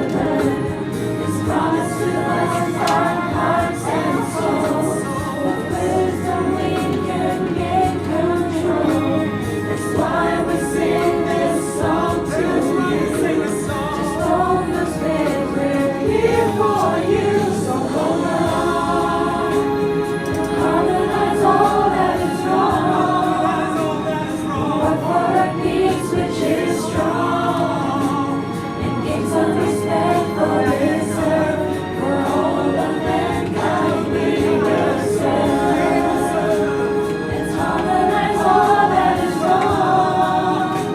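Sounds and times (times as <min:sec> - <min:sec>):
choir singing with instruments: 0:00.0 - 0:40.9.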